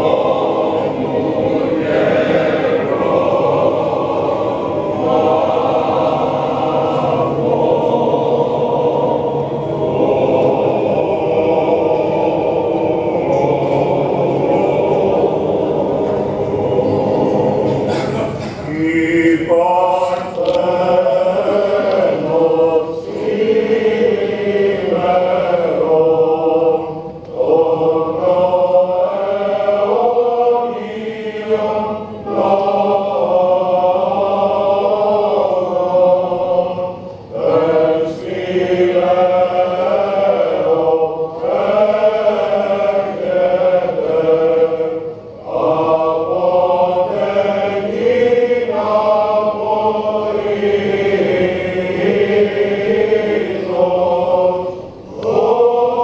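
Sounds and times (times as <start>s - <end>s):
voices chanting over held note: 0.0s - 56.0s.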